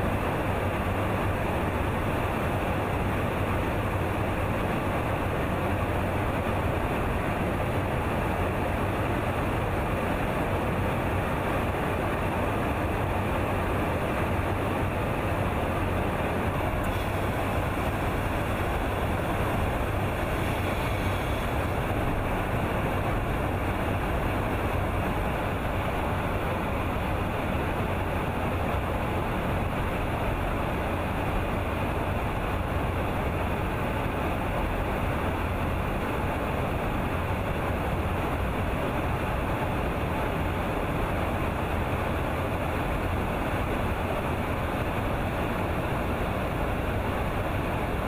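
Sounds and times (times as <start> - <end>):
aircraft engine drone: 0.0 - 48.0
airflow in aircraft cabin: 0.0 - 48.0.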